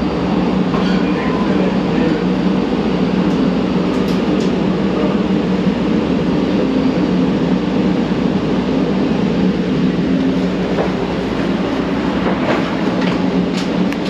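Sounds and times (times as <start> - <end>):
train wheel running noise: 0.0 - 14.0.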